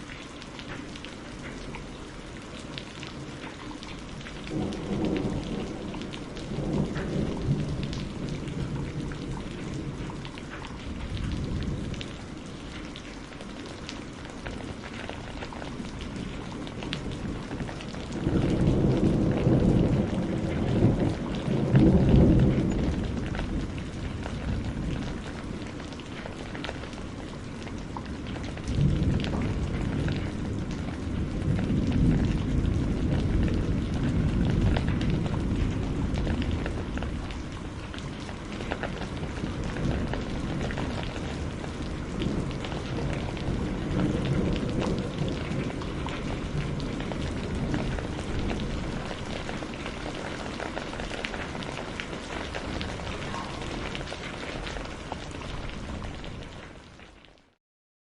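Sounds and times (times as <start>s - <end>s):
rain pattering: 0.0s - 57.6s
rolling thunder: 4.0s - 12.2s, 13.7s - 56.5s.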